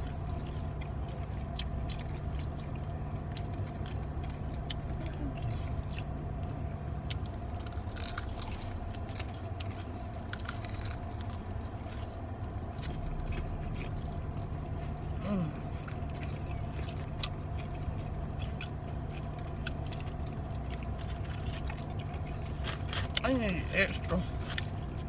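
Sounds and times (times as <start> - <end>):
car interior low hum: 0.0 - 25.0
chewing crunchy food: 0.0 - 25.0.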